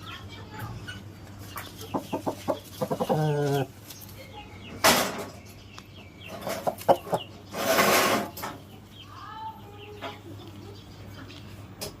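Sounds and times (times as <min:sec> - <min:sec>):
chickens clucking and calling: 0:00.7 - 0:11.9.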